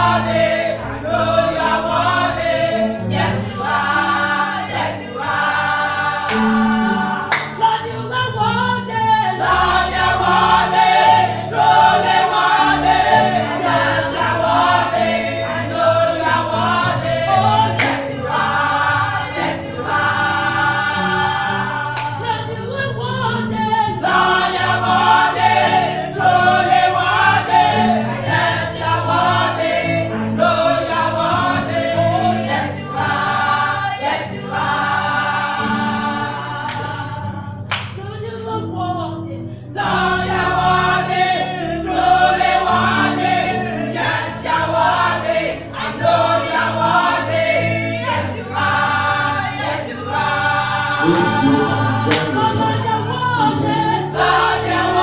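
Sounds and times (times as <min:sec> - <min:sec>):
instrumental accompaniment: 0:00.0 - 0:39.0, 0:39.9 - 0:55.0
choir singing gospel: 0:00.0 - 0:55.0.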